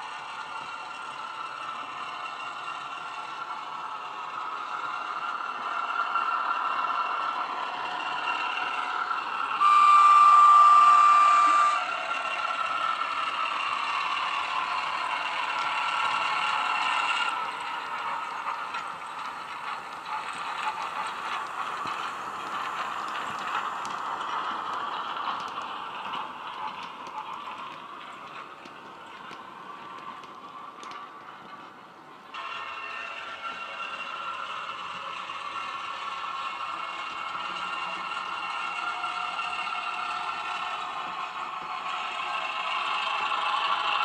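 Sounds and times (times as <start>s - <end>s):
model train wheels clattering on track: 0.0s - 44.0s.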